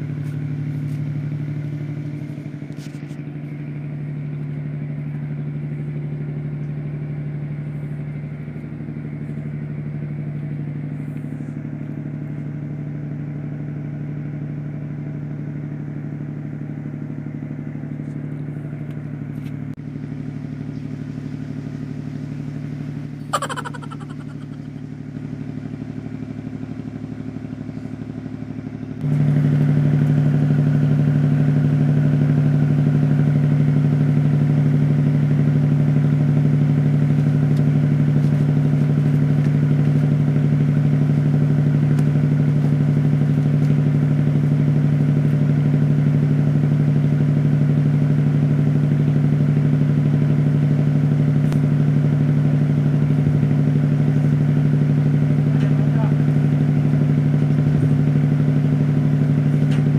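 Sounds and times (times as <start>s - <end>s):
engine humming steadily: 0.0s - 59.9s.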